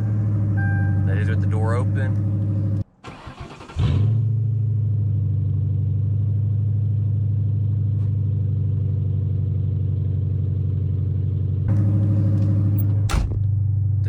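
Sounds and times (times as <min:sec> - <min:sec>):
car engine idling: 0:00.0 - 0:02.8, 0:05.1 - 0:14.0.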